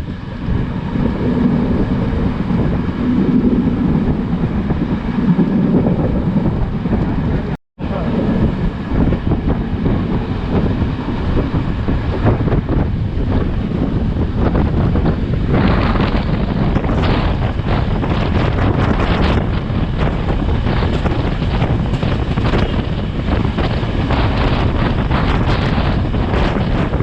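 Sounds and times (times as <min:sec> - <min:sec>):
train rumbling at speed: 0:00.0 - 0:27.0
wind buffeting microphone: 0:00.0 - 0:27.0.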